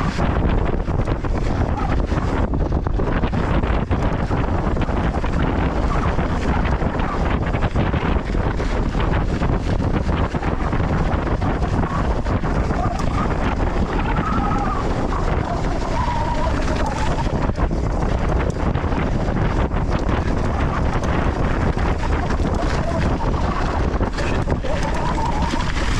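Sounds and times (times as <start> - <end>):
bike rattling: 0.0 - 25.9
tyres on loose dirt: 0.0 - 25.9
wind on microphone: 0.0 - 25.9.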